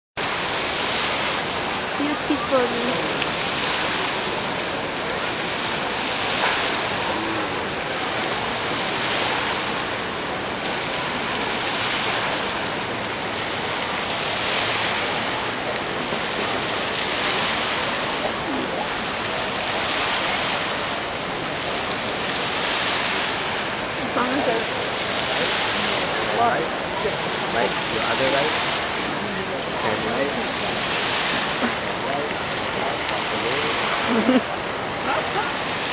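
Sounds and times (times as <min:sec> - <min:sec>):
fountain water splashing: 0:00.2 - 0:35.9.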